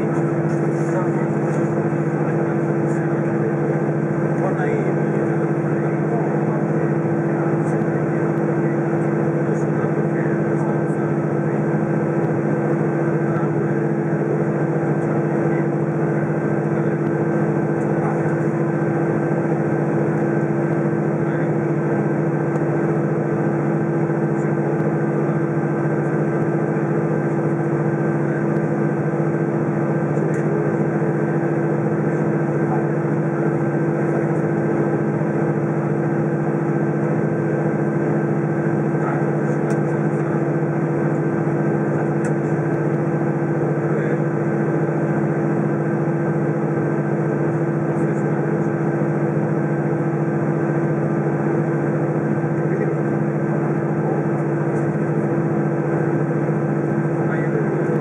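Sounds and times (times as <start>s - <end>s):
aircraft cabin engine drone: 0.0s - 58.0s.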